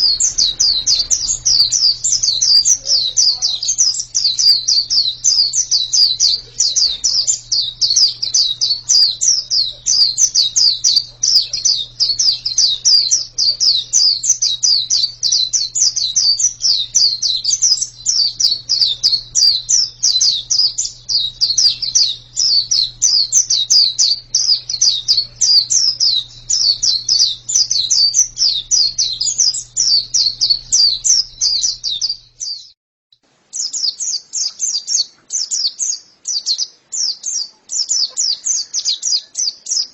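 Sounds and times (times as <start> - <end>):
faint low hum: 0.0 - 32.7
bird twittering song: 0.0 - 32.8, 33.5 - 39.9.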